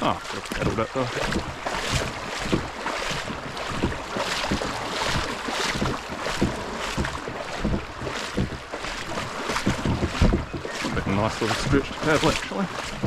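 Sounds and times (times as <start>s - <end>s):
creek water flowing: 0.0s - 13.0s
kayak paddle splashing: 0.0s - 13.0s.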